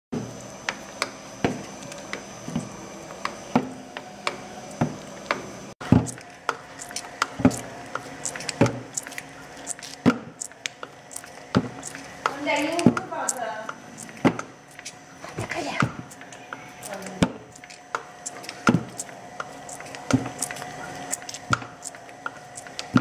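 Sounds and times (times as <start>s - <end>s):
low machine hum: 0.2s - 23.0s.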